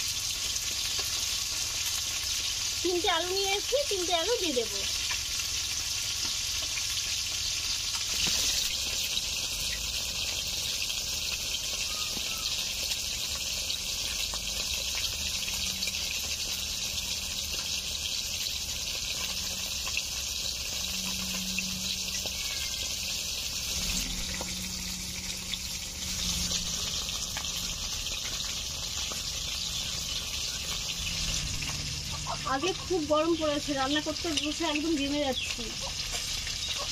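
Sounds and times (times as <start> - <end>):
fish sizzling in oil: 0.0 - 36.9.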